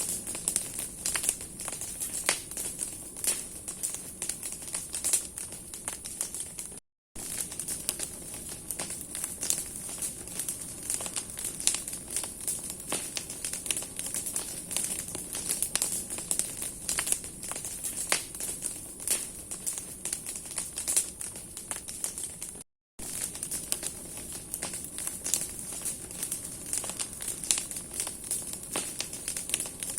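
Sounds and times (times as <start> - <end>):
bonfire crackling and popping: 0.0 - 29.9
burning wood snapping: 0.0 - 29.9
hissing flame: 0.0 - 29.9.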